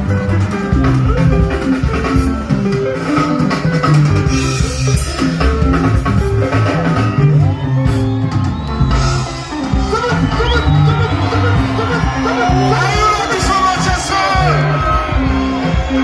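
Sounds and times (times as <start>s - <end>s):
bass guitar: 0.0s - 16.0s
drum kit: 0.0s - 16.0s
electric guitars: 0.0s - 16.0s.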